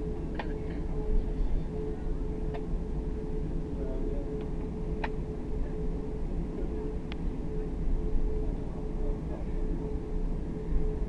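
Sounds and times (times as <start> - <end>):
aircraft engine rumble: 0.0 - 11.0
steady hum: 0.0 - 11.0.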